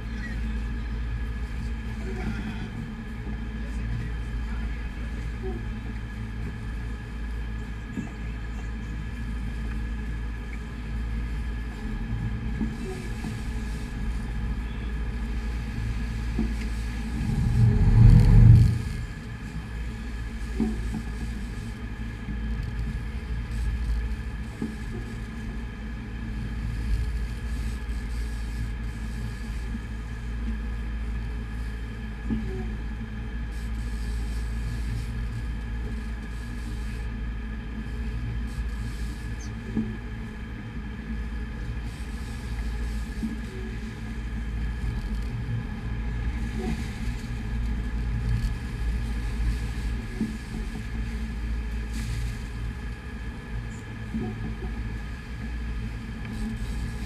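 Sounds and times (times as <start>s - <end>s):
boat engines rumbling: 0.0s - 57.0s.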